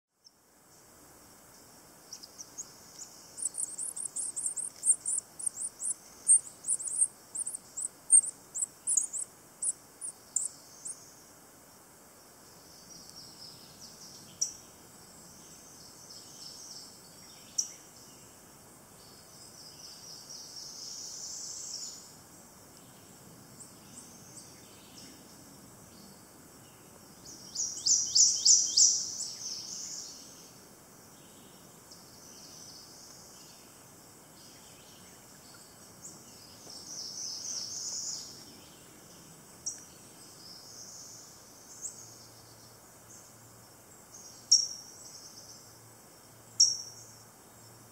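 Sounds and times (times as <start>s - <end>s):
songbird chirping: 0.2s - 11.4s, 12.4s - 47.8s.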